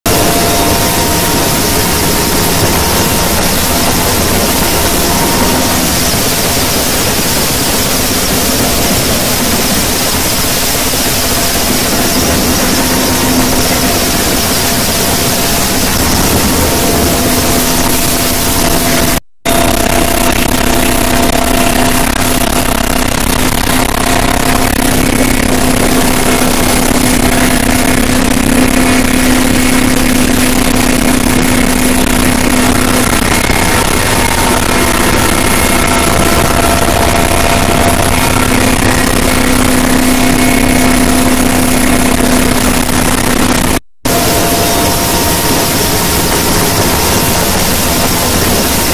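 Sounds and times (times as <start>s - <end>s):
helicopter cabin noise: 0.0s - 48.9s.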